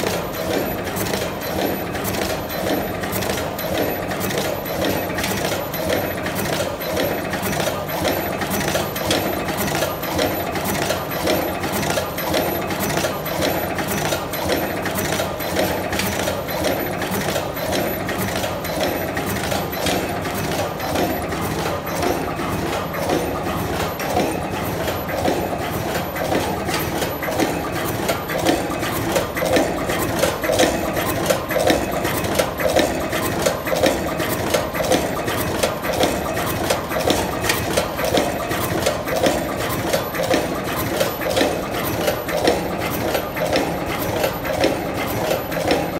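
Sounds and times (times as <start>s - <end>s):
metallic clacks of crimping machine: 0.0s - 45.9s
steady machine noise: 0.0s - 45.9s.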